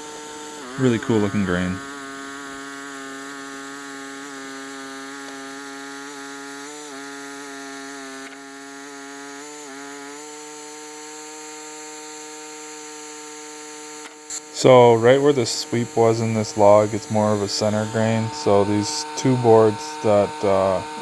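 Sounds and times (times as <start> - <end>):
sawmill sawing log: 0.0 - 13.8, 14.5 - 21.0.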